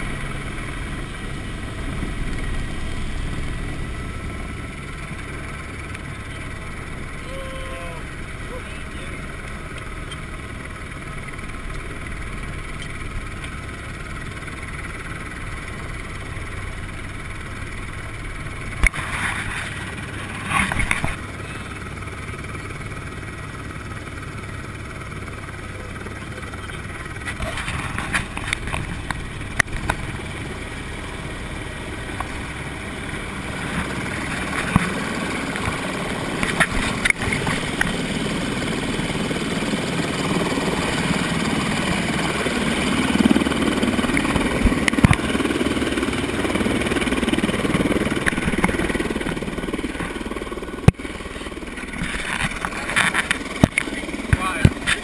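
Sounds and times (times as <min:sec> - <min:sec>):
helicopter running: 0:00.0 - 0:55.0.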